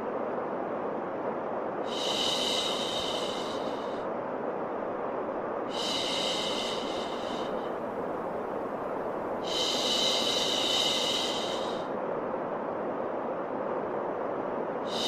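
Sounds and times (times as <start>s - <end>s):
steady low white noise: 0.0s - 15.0s.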